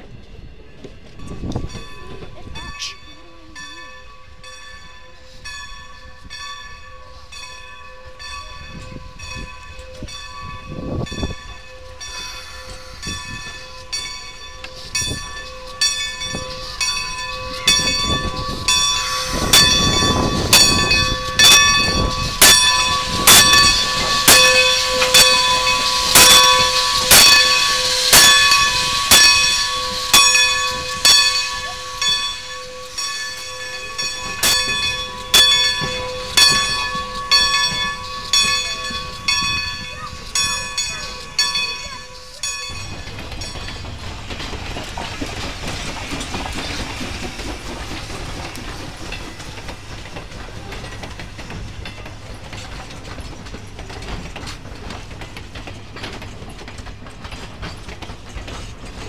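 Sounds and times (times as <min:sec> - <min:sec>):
rush of steam: 0:00.0 - 0:59.0
steam locomotive bell ringing: 0:00.0 - 0:59.0.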